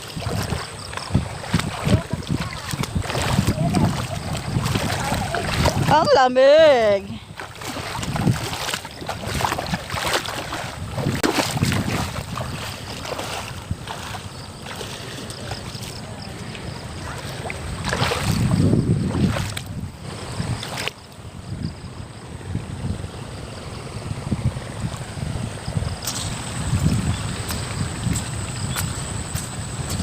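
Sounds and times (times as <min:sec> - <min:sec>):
water splashing around wading people: 0:00.0 - 0:30.0
wind buffeting microphone: 0:00.0 - 0:30.0.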